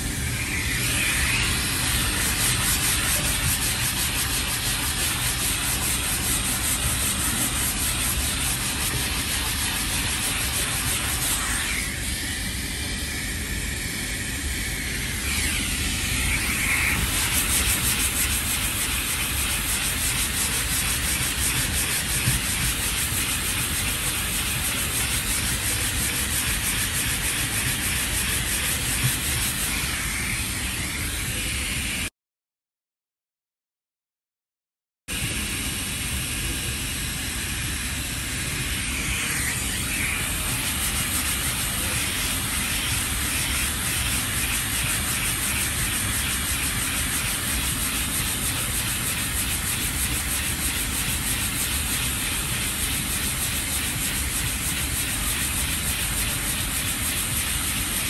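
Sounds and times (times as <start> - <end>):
hand sanding rasping strokes: 0.0 - 11.9, 15.4 - 31.4, 39.2 - 58.0
dust extraction air rush: 0.0 - 32.1, 35.1 - 58.0.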